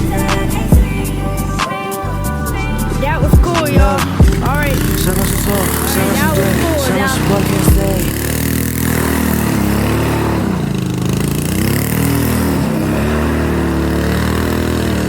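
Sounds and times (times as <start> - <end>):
small petrol engine revving: 0.0 - 15.0.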